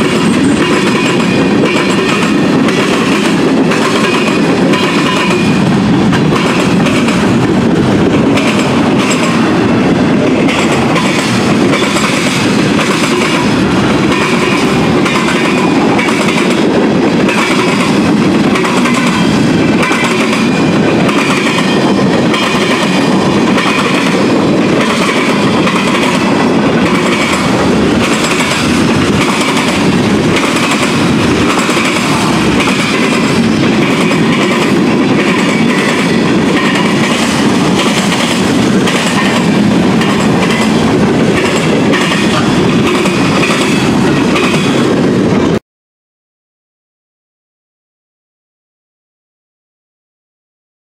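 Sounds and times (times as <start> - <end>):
freight train wheels rumbling: 0.0 - 45.6.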